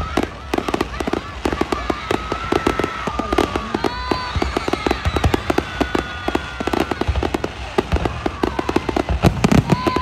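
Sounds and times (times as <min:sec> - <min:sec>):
fireworks crackling and banging: 0:00.0 - 0:10.0
whistling fireworks: 0:00.0 - 0:10.0.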